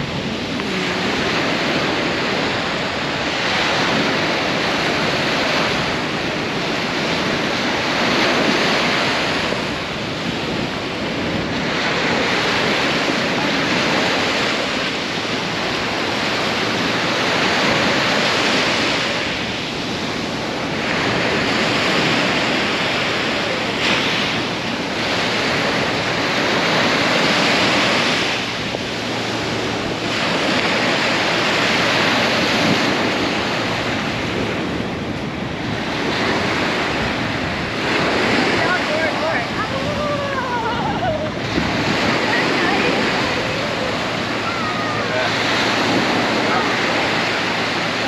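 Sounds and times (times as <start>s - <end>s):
surf rushing hiss: 0.0s - 48.0s
wind buffeting microphone: 0.0s - 48.0s.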